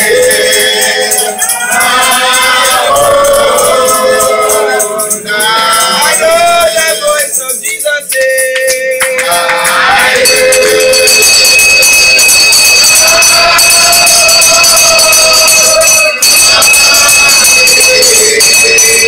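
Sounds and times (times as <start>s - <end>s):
congregation singing: 0.0s - 19.0s
handbell ringing: 0.0s - 19.0s.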